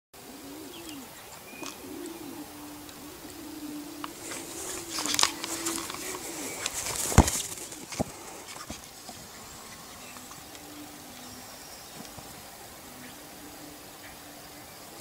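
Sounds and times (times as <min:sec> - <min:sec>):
dove cooing: 0:00.2 - 0:15.0
rustling: 0:01.3 - 0:14.3.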